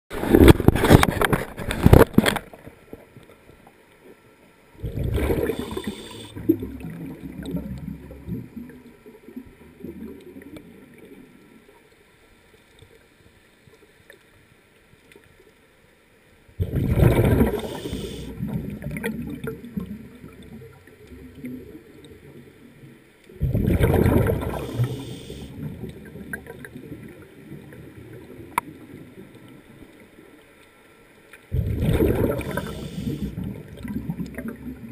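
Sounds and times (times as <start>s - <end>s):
underwater bubbles rushing and gurgling: 0.1s - 14.2s, 16.5s - 34.9s.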